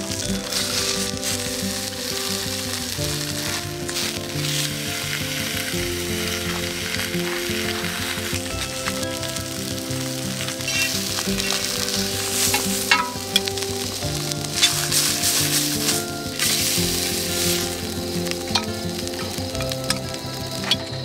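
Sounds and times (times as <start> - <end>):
food sizzling in a pan: 0.0 - 21.0
soft background music: 0.0 - 21.0.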